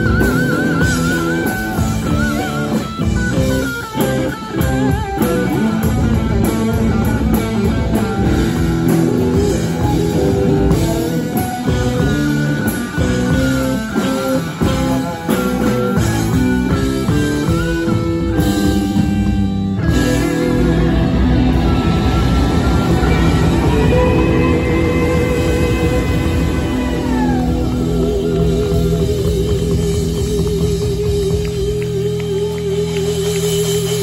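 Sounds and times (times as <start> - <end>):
drums: 0.0 - 34.0
electric guitar lead: 0.0 - 34.0
rhythm guitar: 0.0 - 34.0.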